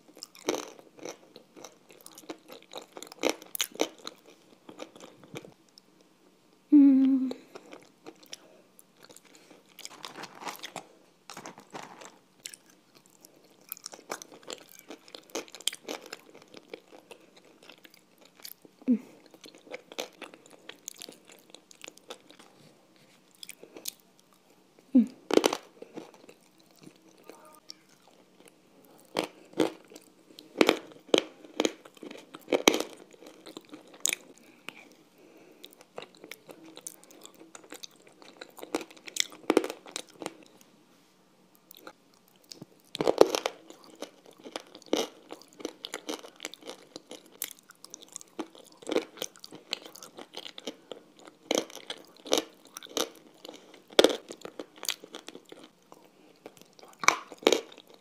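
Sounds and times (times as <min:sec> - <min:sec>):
chewing and crunching: 0:00.0 - 0:06.0, 0:07.4 - 0:22.6, 0:23.2 - 0:24.6, 0:25.3 - 0:40.7, 0:41.6 - 0:58.0.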